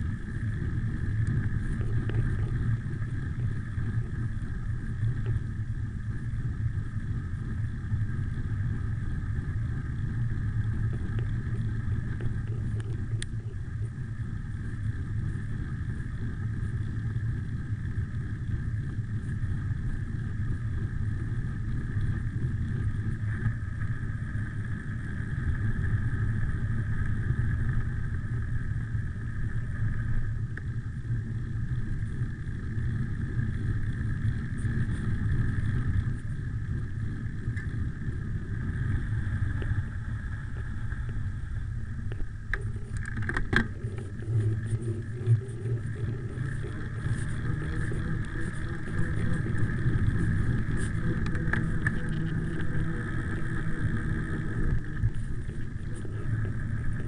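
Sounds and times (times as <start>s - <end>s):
wind buffeting microphone: 0.0s - 29.4s, 30.3s - 57.0s
bike tyres rumbling on asphalt: 0.0s - 57.0s.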